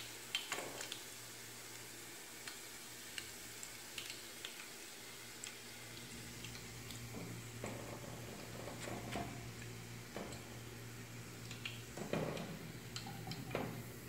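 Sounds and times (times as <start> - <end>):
oil sizzling with pops: 0.0 - 14.0.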